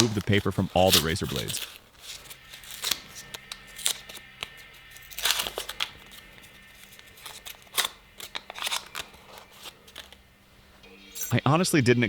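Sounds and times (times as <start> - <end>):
paper wrappers tearing and crinkling: 0.0 - 10.4, 11.1 - 11.4.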